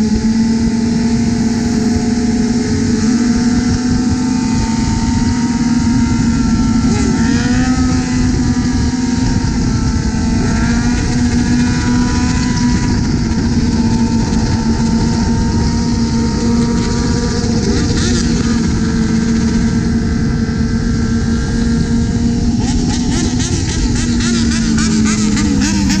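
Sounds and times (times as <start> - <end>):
motorcycle engines droning: 0.0 - 26.0
rushing wind and road noise: 0.0 - 26.0.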